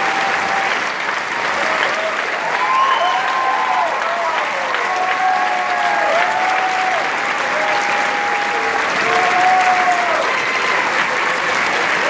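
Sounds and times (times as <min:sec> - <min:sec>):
audience clapping: 0:00.0 - 0:12.0
cheers and calls: 0:00.0 - 0:12.0.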